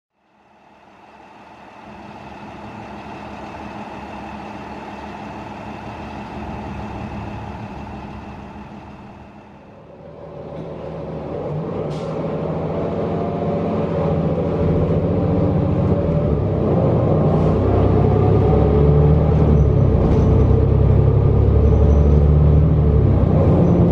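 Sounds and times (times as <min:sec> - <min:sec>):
bus diesel engine: 0:00.1 - 0:23.9.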